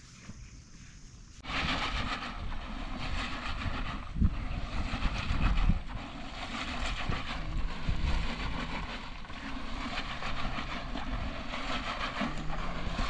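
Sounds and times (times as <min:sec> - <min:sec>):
wind buffeting microphone: 0:01.4 - 0:13.0.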